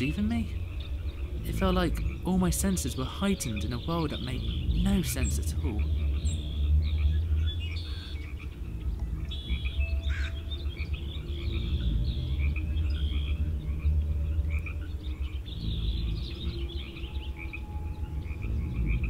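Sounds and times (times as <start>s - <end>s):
chorus of chirping animal calls: 0.0s - 19.0s
low rumble: 0.0s - 19.0s.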